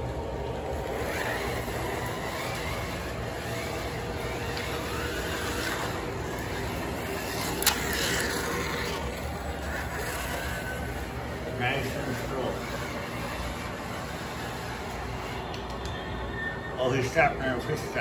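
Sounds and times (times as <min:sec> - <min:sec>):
faint wavering whine: 0:00.0 - 0:18.0
toy trains rattling on track: 0:00.9 - 0:16.0.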